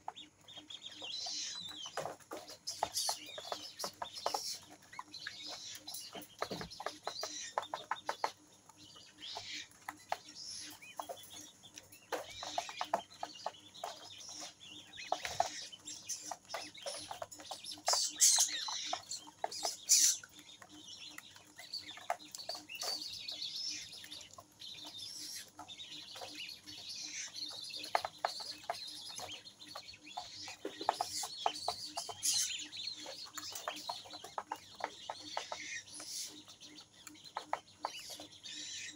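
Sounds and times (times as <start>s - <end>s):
chicks cheeping: 0.0s - 38.9s
pecking ticks: 0.0s - 38.9s.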